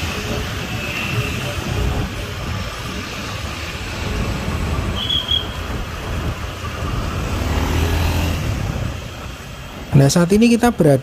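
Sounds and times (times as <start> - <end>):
traffic engine and road rumble: 0.0 - 11.0.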